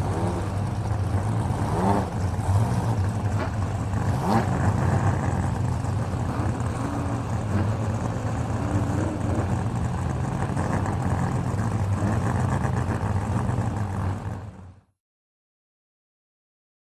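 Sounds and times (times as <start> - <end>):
racing car engines droning: 0.0 - 14.9.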